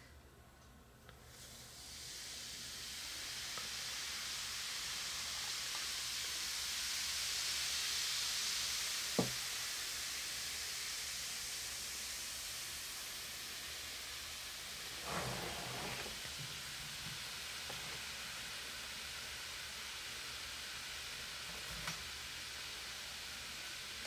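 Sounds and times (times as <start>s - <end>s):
fizzing hiss of foam: 1.3s - 24.0s.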